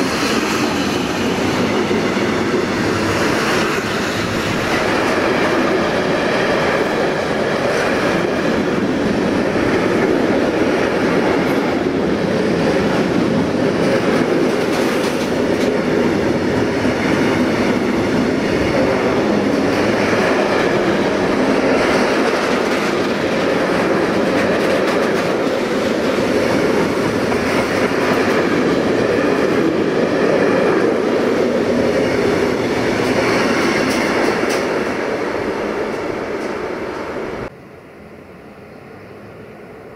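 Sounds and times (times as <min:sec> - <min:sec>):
wheels clacking over rail joints: 0:00.0 - 0:36.6
freight train passing: 0:00.0 - 0:39.9.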